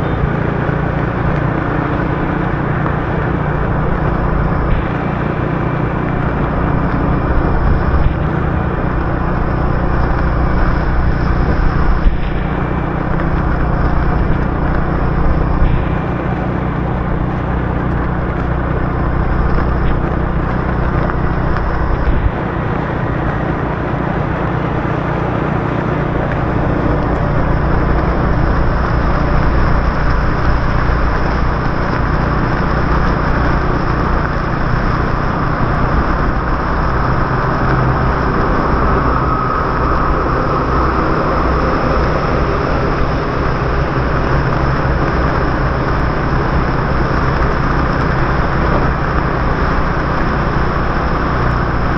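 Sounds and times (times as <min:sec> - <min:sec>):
motorbike engine running: 0:00.0 - 0:51.9
wind noise: 0:00.0 - 0:51.9
tyre hiss on wet road: 0:00.6 - 0:51.9.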